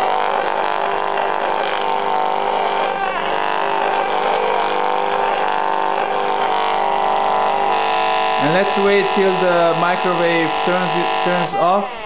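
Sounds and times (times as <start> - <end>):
radiation meter harsh buzz: 0.0 - 12.0.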